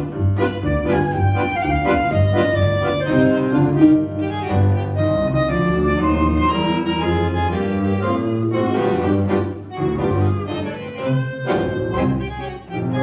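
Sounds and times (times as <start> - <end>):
bandoneon: 0.0 - 13.0
clarinet: 0.0 - 13.0
double bass walking line: 0.0 - 13.0
piano: 0.0 - 13.0.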